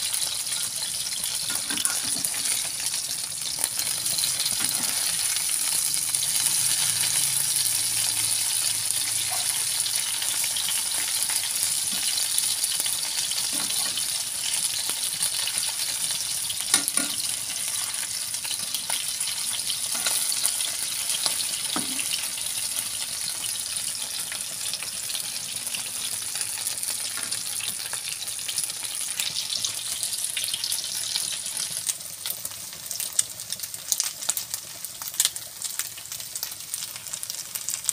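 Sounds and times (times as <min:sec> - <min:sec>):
fish sizzling in oil: 0:00.0 - 0:37.9.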